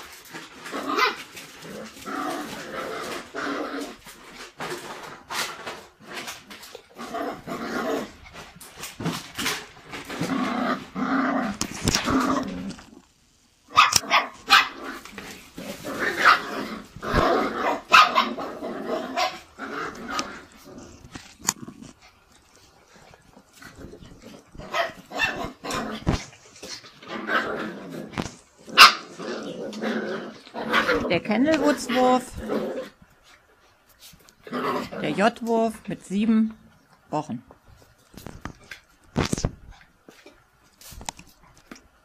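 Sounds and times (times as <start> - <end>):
puppies growling and yapping: 0.0 - 35.3.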